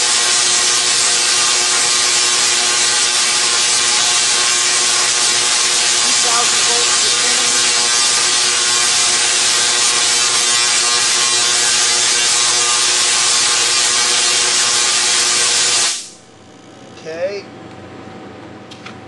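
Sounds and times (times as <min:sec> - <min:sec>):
tesla coil buzzing hiss: 0:00.0 - 0:16.4.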